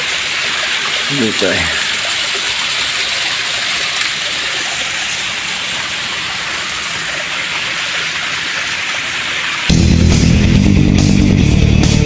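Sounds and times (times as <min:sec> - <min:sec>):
small waterfall rushing: 0:00.0 - 0:09.7.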